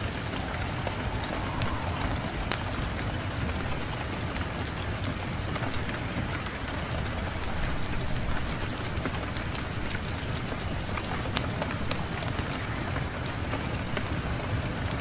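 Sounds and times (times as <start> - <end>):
fireplace fire crackling: 0.0 - 15.0
low rush of wind: 0.0 - 15.0.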